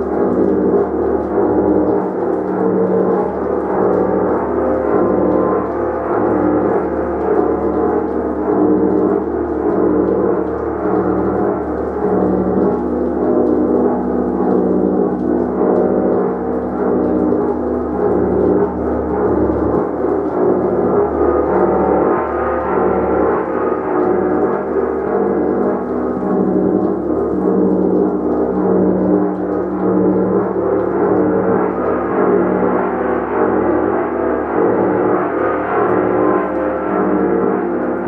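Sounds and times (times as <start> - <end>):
pulsing low hum: 0.0 - 38.0.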